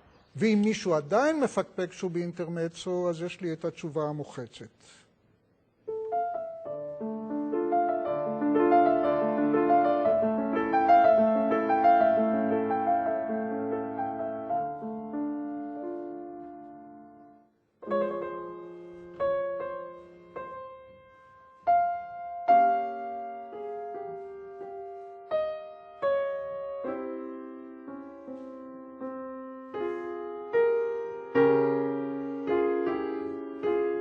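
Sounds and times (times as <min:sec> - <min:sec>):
slow solo piano: 0:05.9 - 0:34.0.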